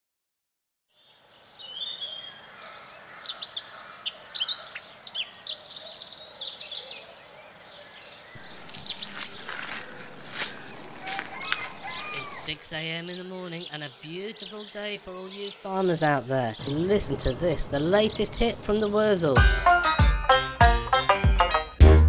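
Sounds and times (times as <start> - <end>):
birds chirping and singing: 1.0 - 19.5.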